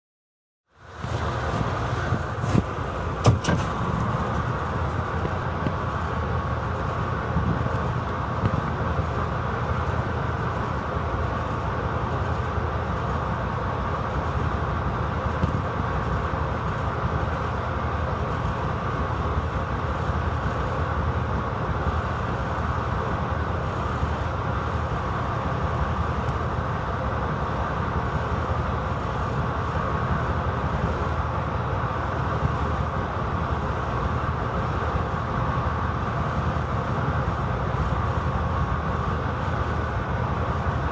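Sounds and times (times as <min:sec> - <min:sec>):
locomotive engine drone: 0:00.7 - 0:40.9.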